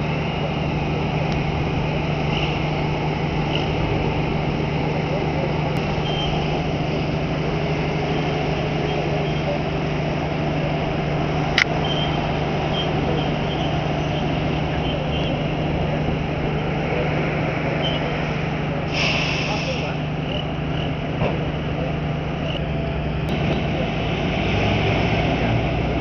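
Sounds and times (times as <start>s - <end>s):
truck engine droning: 0.0s - 26.0s.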